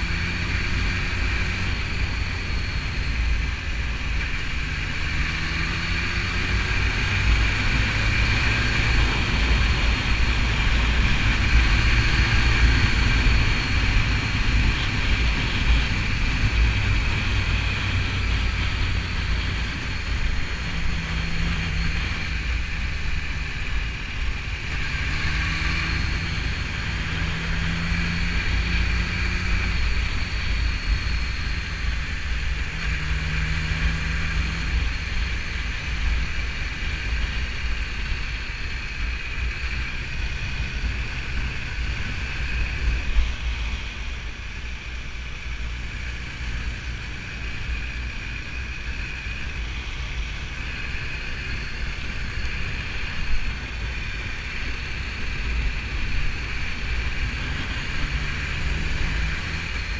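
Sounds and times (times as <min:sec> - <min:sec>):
high-pitched whine: 0:00.0 - 0:59.9
motorcycle engine running: 0:00.0 - 0:59.9
wind rushing on microphone: 0:00.0 - 0:59.9.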